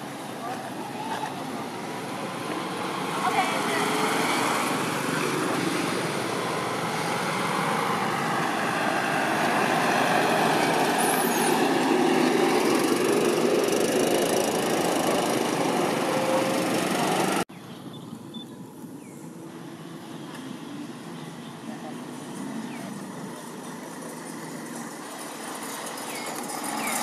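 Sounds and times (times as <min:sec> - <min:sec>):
engine-like machine noise: 0:00.0 - 0:17.5, 0:19.2 - 0:27.0.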